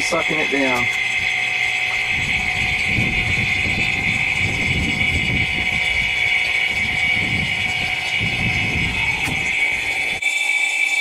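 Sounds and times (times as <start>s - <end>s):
electric vacuum pump running: 0.0s - 11.0s.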